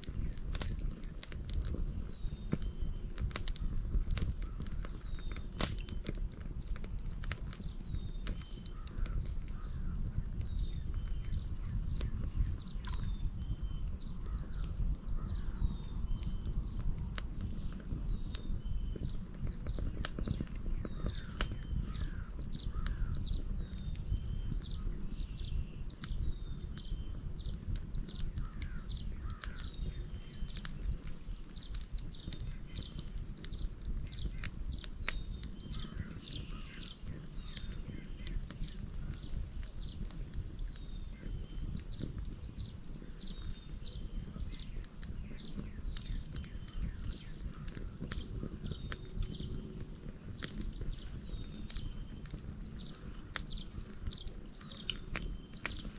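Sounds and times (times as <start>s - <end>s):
small birds chirping: 0.0s - 55.9s
wood fire crackling: 0.0s - 55.9s.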